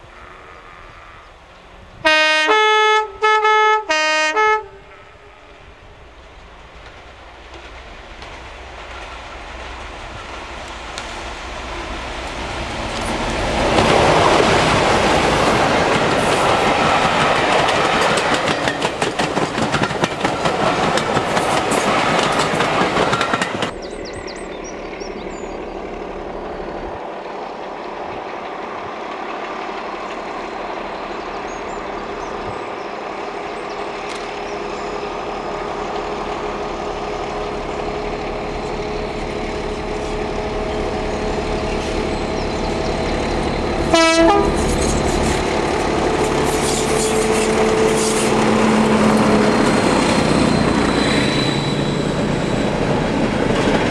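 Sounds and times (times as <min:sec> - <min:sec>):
diesel locomotive engine: 0:00.0 - 0:53.9
train wheels clattering on rails: 0:06.2 - 0:25.5, 0:27.0 - 0:53.9.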